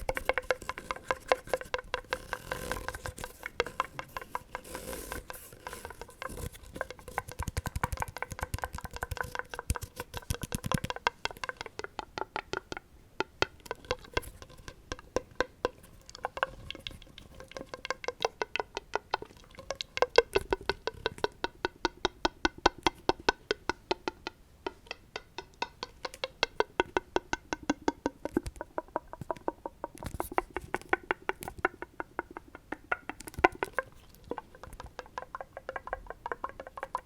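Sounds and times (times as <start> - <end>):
rapid tapping on hard object: 0.0 - 37.0.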